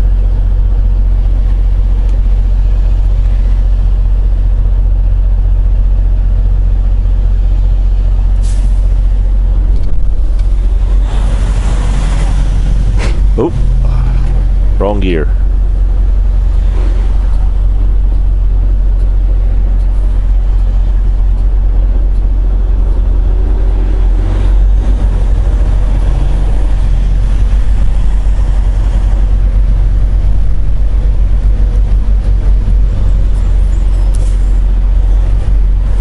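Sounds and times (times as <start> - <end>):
road noise: 0.0 - 36.0
truck diesel engine rumble: 0.0 - 36.0.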